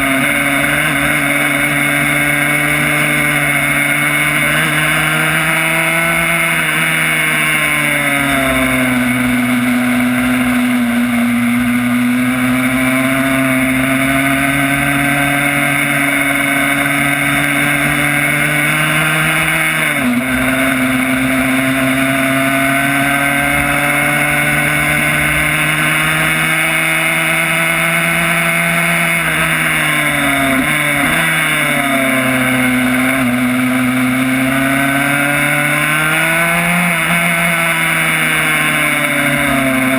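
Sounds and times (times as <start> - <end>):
race bike engine revving: 0.0 - 39.9.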